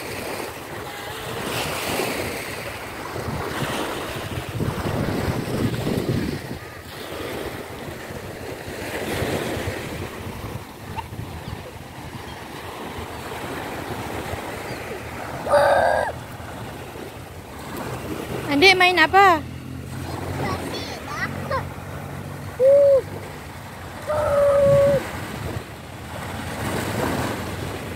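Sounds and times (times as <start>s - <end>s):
wind buffeting microphone: 0.0s - 21.2s, 21.8s - 27.9s
small waves washing onto sand: 0.0s - 27.9s.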